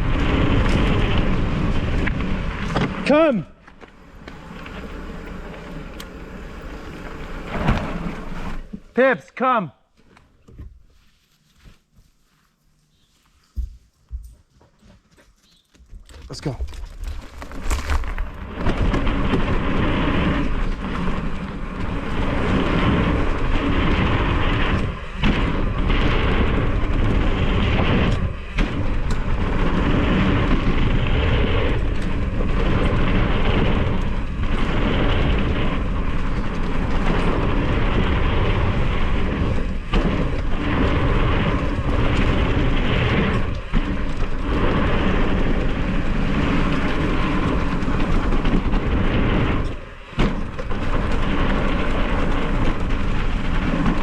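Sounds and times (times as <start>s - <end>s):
wind rumble on microphone: 0.0s - 8.8s, 16.4s - 54.0s
bike tyres on dirt: 0.0s - 9.2s, 10.0s - 54.0s.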